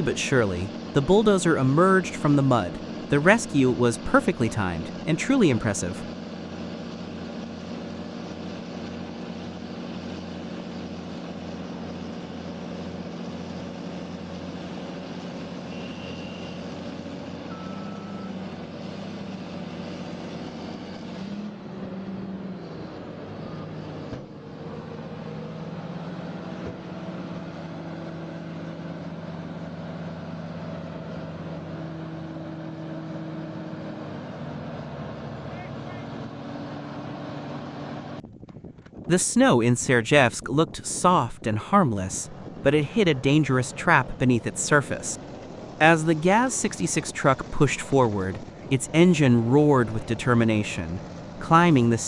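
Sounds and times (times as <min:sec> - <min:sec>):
heavy machinery engines: 0:00.0 - 0:52.0.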